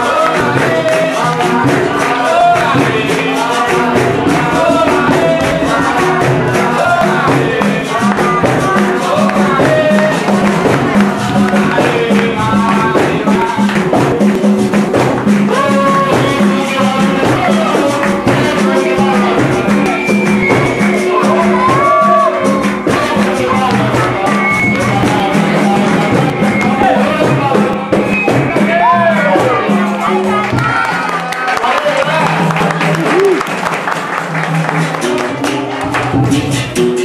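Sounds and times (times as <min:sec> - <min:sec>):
group singing: 0:00.0 - 0:31.7
percussion rhythm: 0:00.0 - 0:37.0.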